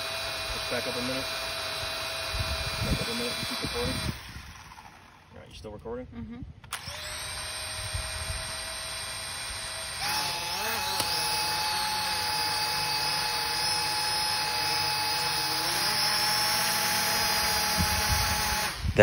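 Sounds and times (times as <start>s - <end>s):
drone motors whining: 0.0s - 5.3s, 6.6s - 19.0s.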